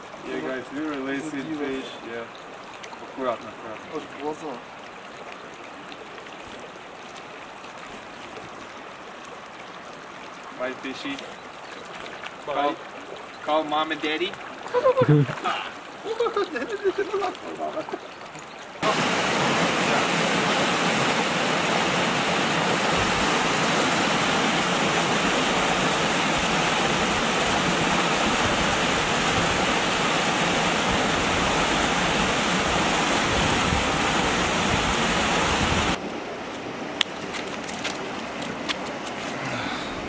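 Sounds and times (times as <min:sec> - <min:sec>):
creek rushing over boulders: 0:00.0 - 0:40.0.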